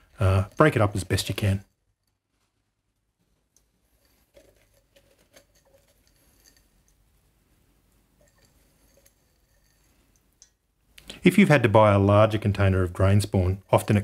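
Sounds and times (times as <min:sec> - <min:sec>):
grain rustling and pattering: 0:00.0 - 0:14.0.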